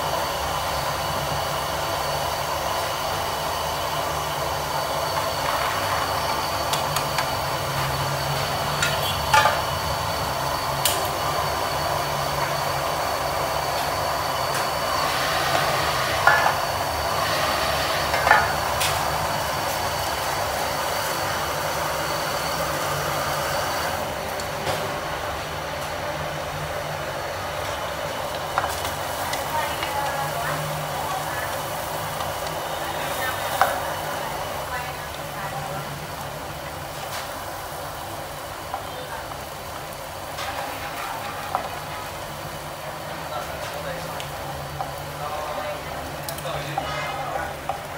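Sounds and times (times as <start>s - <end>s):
gas stove burners roaring: 0.0s - 47.9s.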